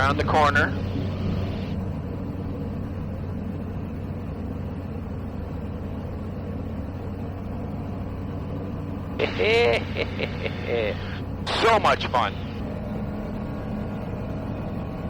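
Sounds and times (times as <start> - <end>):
light aircraft engine droning: 0.0 - 15.0.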